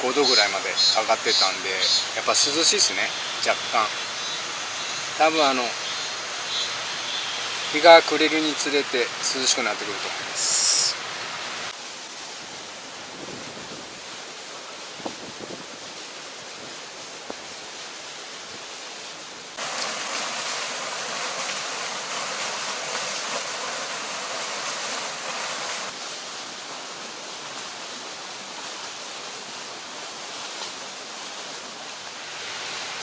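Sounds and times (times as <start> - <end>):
small waterfall pouring: 0.0 - 33.0
water rushing in a stream: 0.0 - 33.0.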